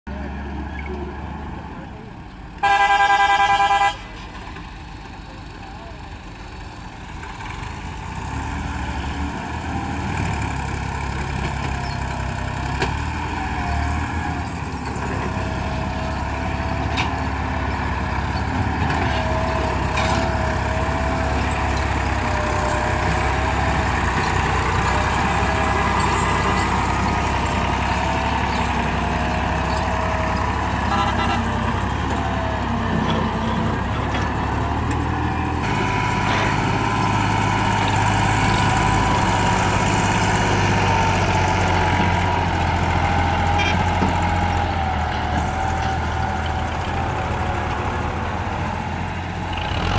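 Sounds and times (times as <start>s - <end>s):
tractor engine working under load: 0.1s - 49.9s.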